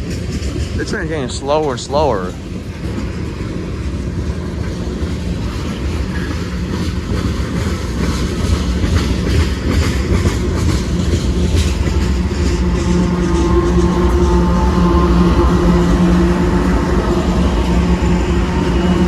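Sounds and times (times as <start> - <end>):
freight train rumbling past: 0.0 - 19.0
wheels clacking over rail joints: 0.0 - 19.0.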